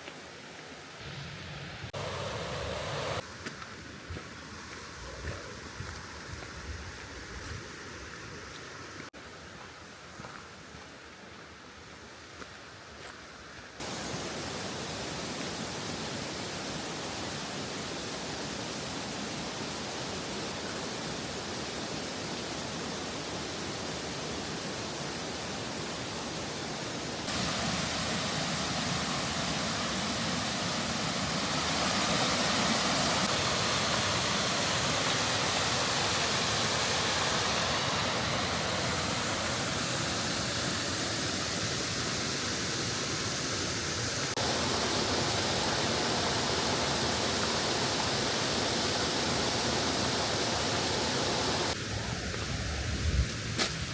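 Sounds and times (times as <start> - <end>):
river and waterfall roar: 0.0 - 6.5, 13.8 - 53.9.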